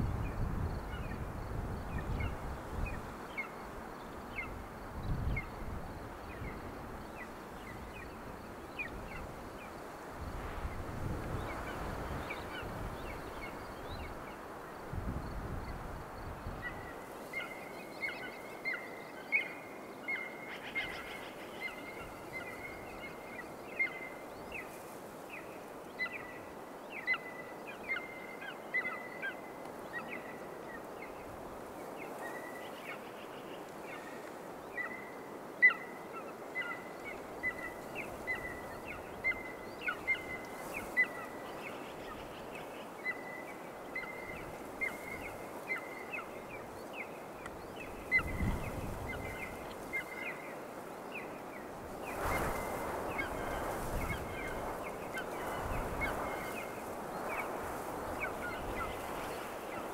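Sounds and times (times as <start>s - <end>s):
faint steady hiss: 0.0s - 59.9s.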